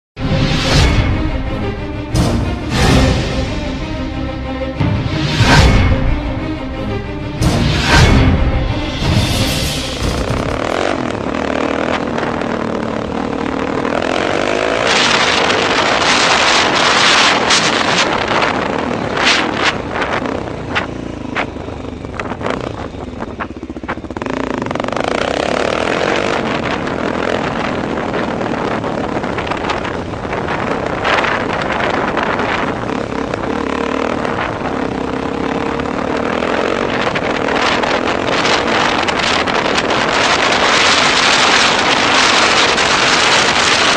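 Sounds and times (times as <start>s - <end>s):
road and wind noise: 0.2s - 43.9s
vehicle engine running: 4.0s - 43.9s.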